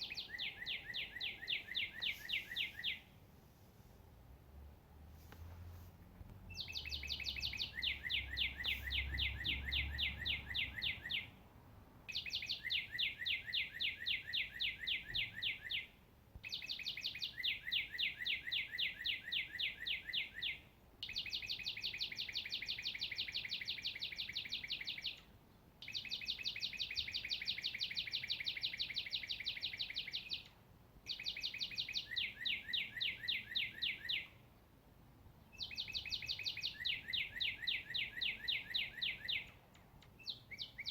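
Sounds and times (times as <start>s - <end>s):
songbird trilling high chirps: 0.0s - 3.1s, 6.5s - 11.4s, 12.1s - 34.4s, 35.4s - 40.9s.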